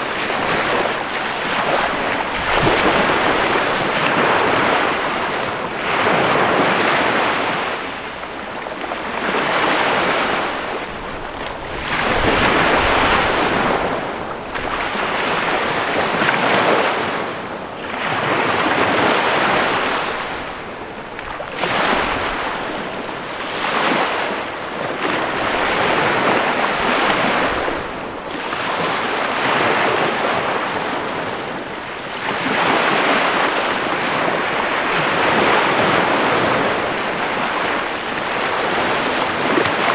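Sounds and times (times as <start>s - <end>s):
small waves breaking on sand: 0.0s - 39.9s.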